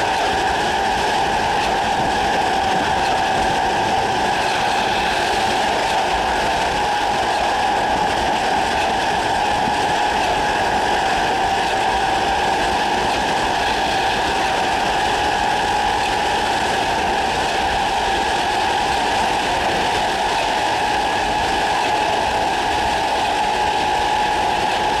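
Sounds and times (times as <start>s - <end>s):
electric train motors whining: 0.0s - 25.0s.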